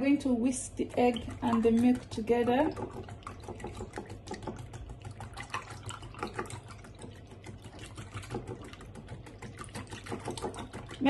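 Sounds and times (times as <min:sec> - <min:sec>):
liquid sloshing: 0:00.0 - 0:11.0
whisk clicking against glass bowl: 0:00.0 - 0:11.0.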